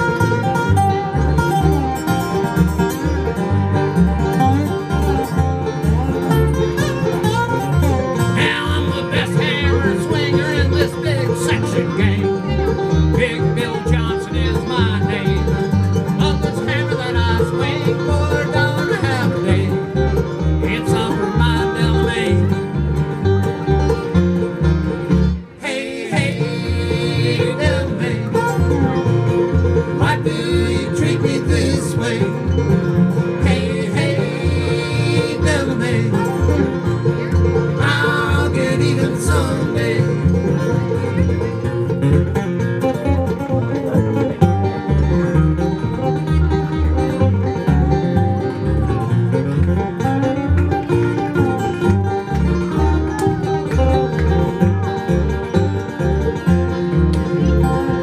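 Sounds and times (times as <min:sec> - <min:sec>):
banjo picking: 0:00.0 - 0:58.0
dobro picking: 0:00.0 - 0:58.0
guitar picking: 0:00.0 - 0:58.0
upright bass: 0:00.0 - 0:58.0.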